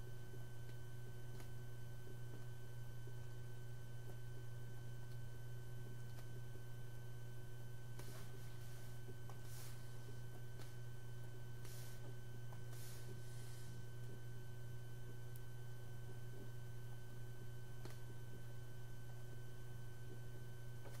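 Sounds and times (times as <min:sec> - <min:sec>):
high steady whine: 0:00.0 - 0:21.0
low electrical hum: 0:00.0 - 0:21.0.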